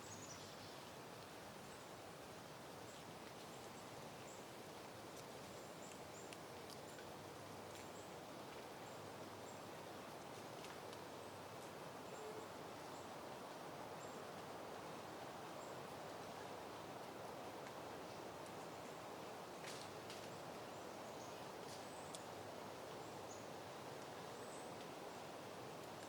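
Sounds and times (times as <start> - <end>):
wind rustling foliage: 0.0 - 26.0.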